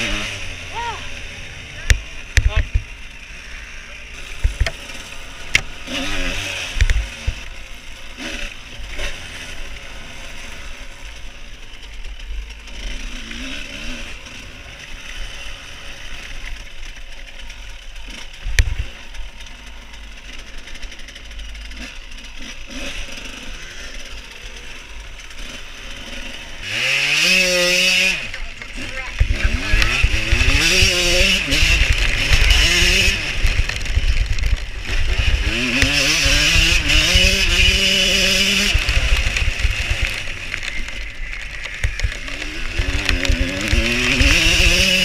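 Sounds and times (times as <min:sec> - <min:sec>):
two-stroke motorcycle engine revving: 0:00.0 - 0:45.0.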